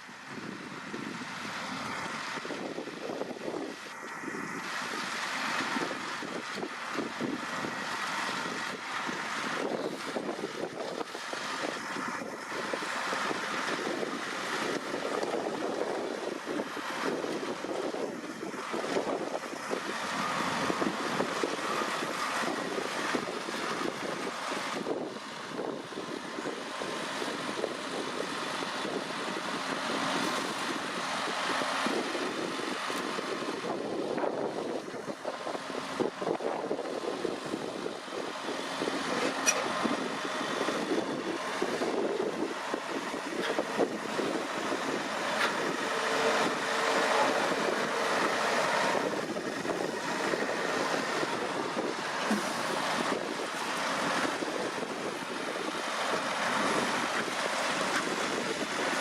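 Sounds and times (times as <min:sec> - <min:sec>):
diesel tractor running: 0:00.0 - 0:59.0.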